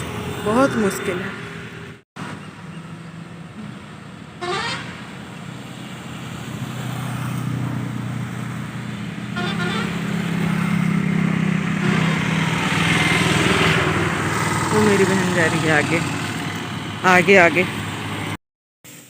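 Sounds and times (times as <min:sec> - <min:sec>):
slow road traffic: 0:00.0 - 0:19.0.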